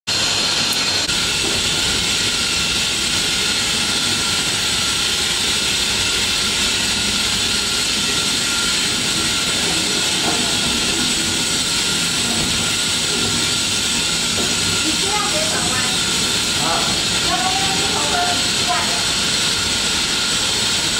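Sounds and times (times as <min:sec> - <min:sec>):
machinery hiss: 0:00.1 - 0:20.9
low machinery rumble: 0:00.2 - 0:20.9.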